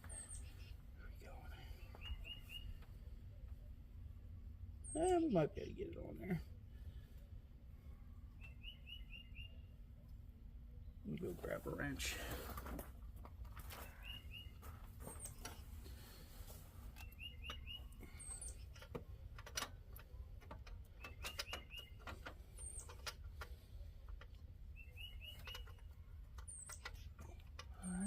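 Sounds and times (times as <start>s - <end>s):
songbird singing: 0.0s - 6.4s, 7.1s - 12.2s, 13.6s - 28.0s
low hum: 0.0s - 28.0s.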